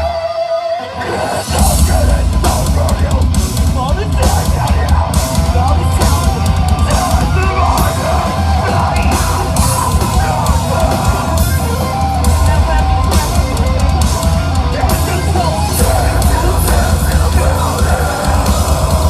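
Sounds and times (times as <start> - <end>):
rock band playing live: 0.0 - 19.0
drum kit beat: 1.4 - 19.0.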